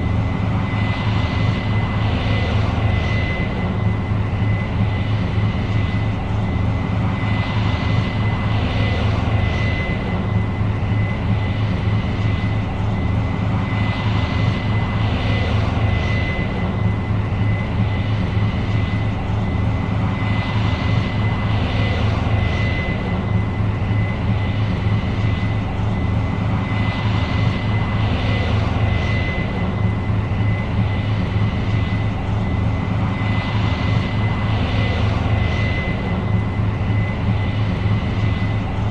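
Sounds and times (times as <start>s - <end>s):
diesel engine drone: 0.0s - 38.9s
thin high whine: 0.0s - 38.9s.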